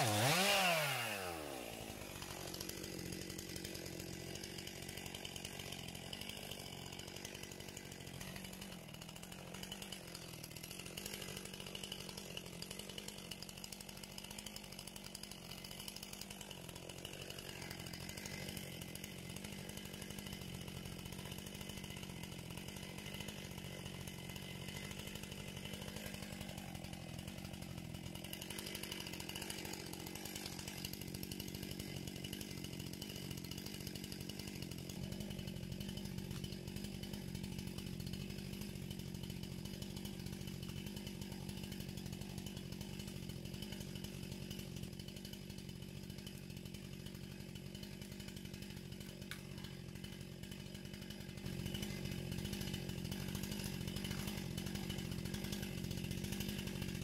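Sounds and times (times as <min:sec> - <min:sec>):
chainsaw running: 0:00.0 - 0:57.0.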